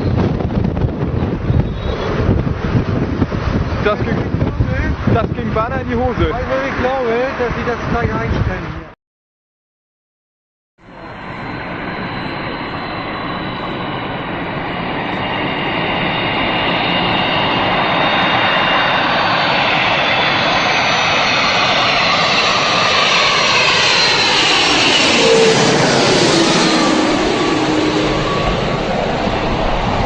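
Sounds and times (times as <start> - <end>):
plane engines roaring: 0.0 - 9.0, 10.8 - 30.0.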